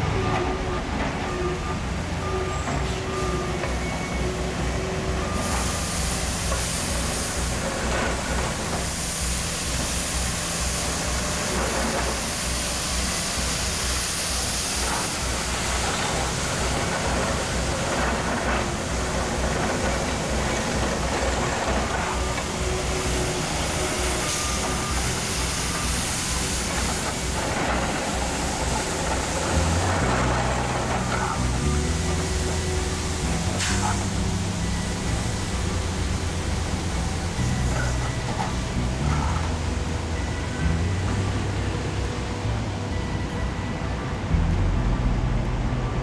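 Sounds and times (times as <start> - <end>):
diesel truck engines rumbling: 0.0 - 46.0.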